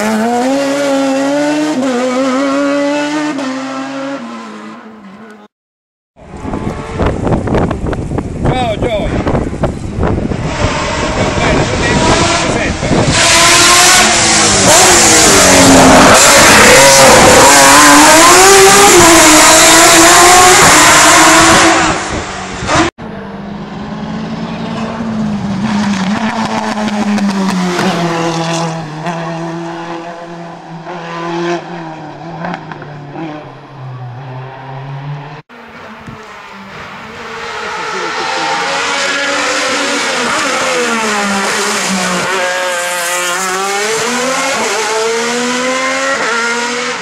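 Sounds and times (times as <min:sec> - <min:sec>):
race car engine at full throttle: 0:00.0 - 0:05.5, 0:06.2 - 0:47.0
quieter race car engine: 0:06.2 - 0:47.0.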